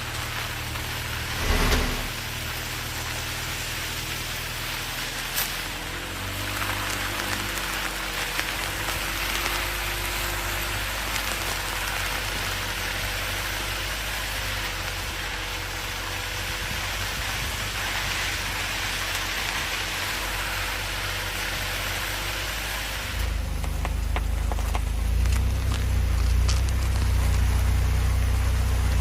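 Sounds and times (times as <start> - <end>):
low engine rumble: 0.0 - 29.0
tyres on dirt road: 0.0 - 29.0.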